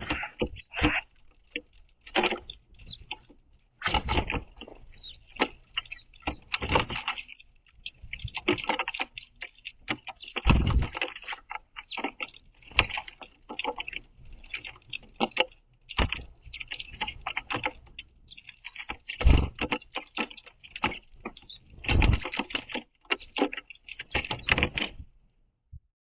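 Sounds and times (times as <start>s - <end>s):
sparrows pecking at seeds: 0.0s - 25.2s.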